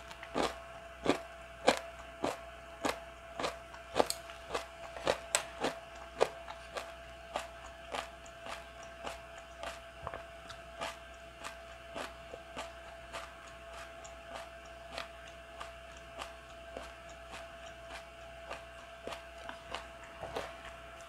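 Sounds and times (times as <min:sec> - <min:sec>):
chewing crunchy food: 0:00.0 - 0:21.0
faint steady hum: 0:00.0 - 0:21.0.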